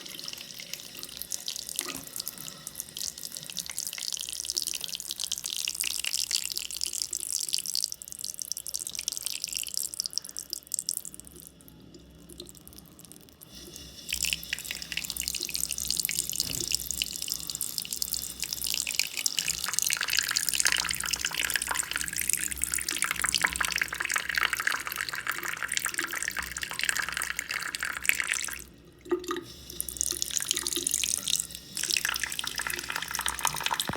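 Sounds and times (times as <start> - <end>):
water running from a tap: 0.0 - 33.9.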